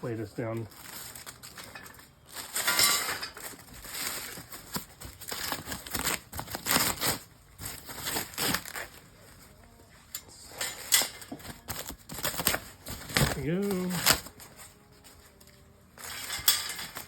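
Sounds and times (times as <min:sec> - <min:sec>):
packing material crinkling: 0:00.0 - 0:09.9, 0:10.5 - 0:17.0.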